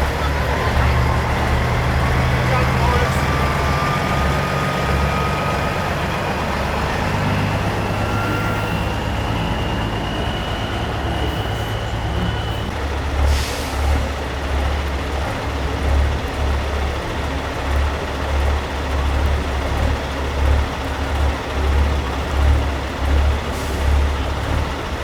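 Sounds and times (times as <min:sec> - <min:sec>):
truck diesel engines droning: 0:00.0 - 0:25.0.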